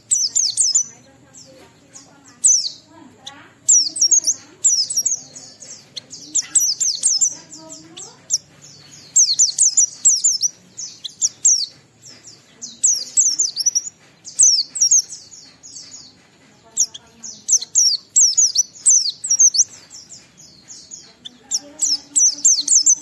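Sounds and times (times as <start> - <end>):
bird twittering high-pitched: 0.0 - 23.0.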